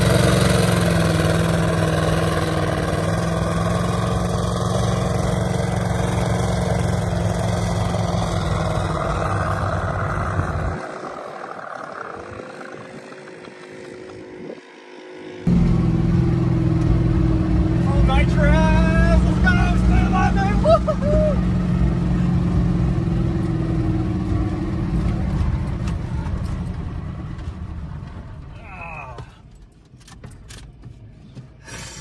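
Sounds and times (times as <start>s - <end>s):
truck engine revving high: 0.0s - 13.5s, 14.4s - 28.6s.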